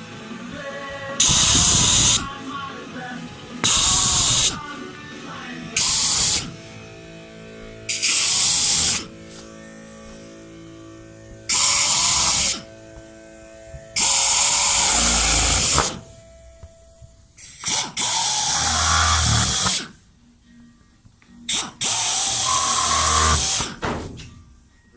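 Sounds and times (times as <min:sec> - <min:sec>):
power tool whirring: 0:00.0 - 0:20.0, 0:21.4 - 0:24.5.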